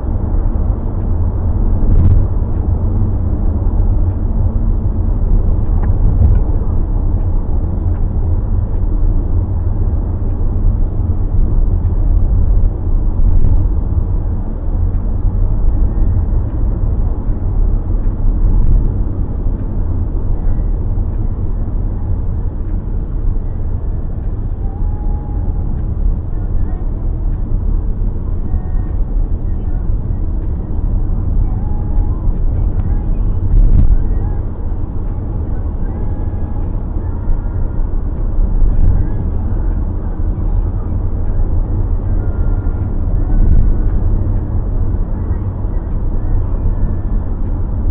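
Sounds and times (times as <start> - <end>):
car driving rumble: 0.0 - 47.9.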